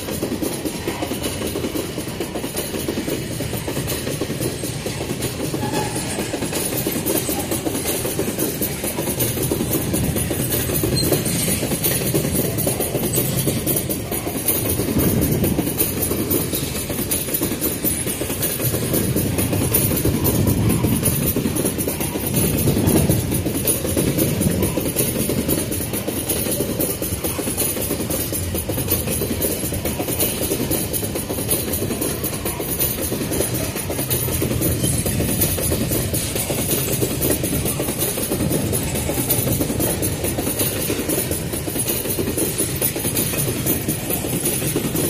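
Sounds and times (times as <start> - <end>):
train wagons rumbling on rails: 0.0 - 45.0.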